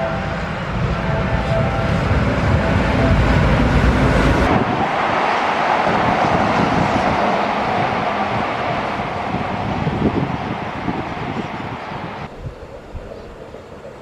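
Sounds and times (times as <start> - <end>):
electric train running past: 0.0 - 14.0
wind rumbling on microphone: 0.0 - 14.0.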